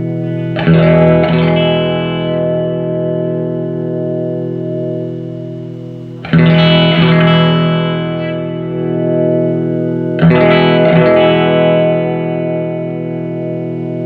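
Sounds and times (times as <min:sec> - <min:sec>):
electric guitar chords ringing: 0:00.0 - 0:14.0.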